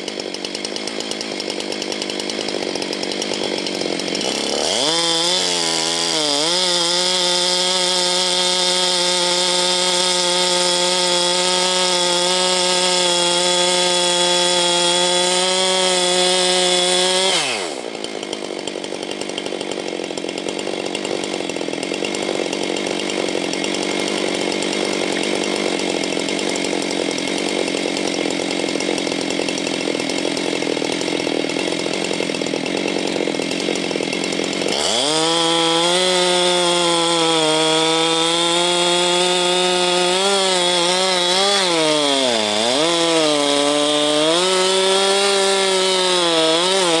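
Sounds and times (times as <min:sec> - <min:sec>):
chainsaw revving: 0:00.0 - 0:47.0.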